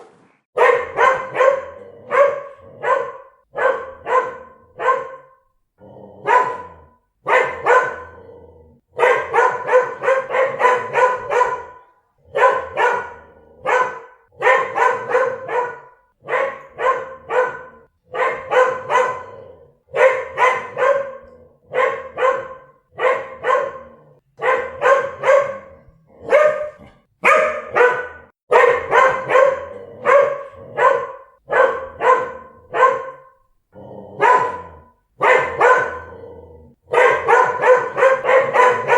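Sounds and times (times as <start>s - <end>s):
dog barking: 0.6s - 5.5s, 6.2s - 8.3s, 8.9s - 33.5s, 34.1s - 38.9s.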